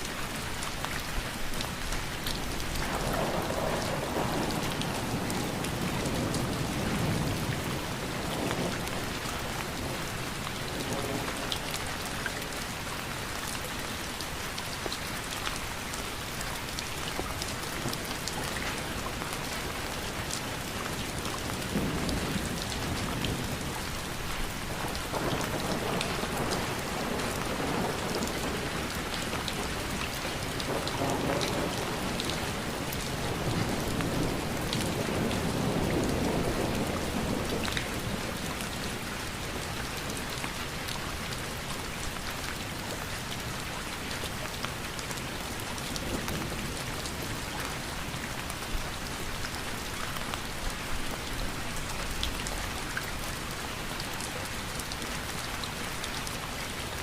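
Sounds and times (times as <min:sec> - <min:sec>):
raindrops ticking on a surface: 0:00.0 - 0:57.0
steady rain hiss: 0:00.0 - 0:57.0.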